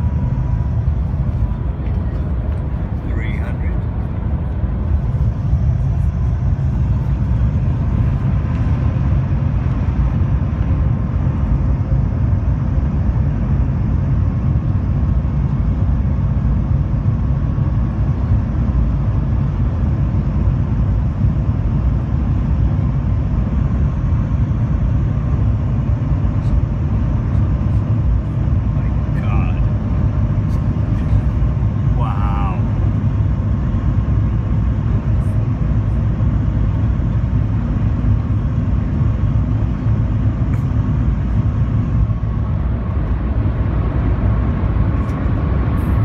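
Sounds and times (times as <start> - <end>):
faint steady whine: 0.0 - 46.0.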